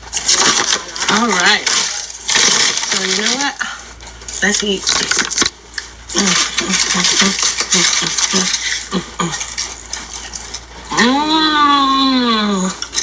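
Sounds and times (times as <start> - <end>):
foil wrapper and paper crinkling: 0.0 - 10.9.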